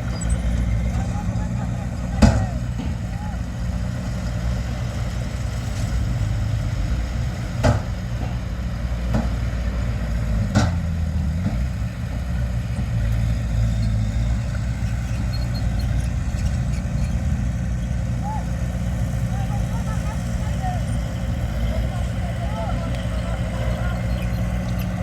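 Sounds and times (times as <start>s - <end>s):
diesel machinery running: 0.0s - 25.0s.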